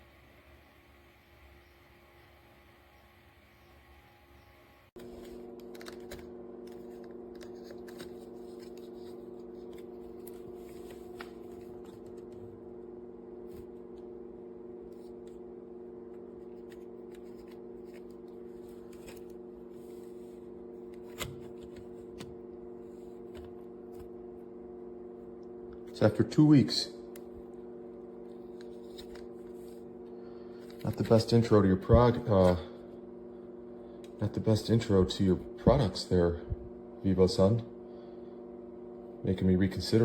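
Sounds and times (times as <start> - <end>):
fan humming: 0.0 - 40.0.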